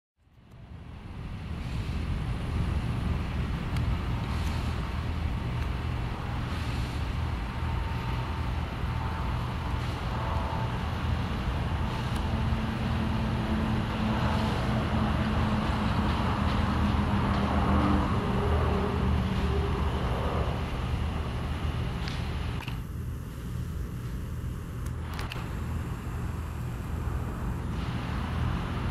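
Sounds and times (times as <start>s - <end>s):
faint steady hums: 0.2s - 28.9s
distant jet rumble: 0.5s - 28.9s.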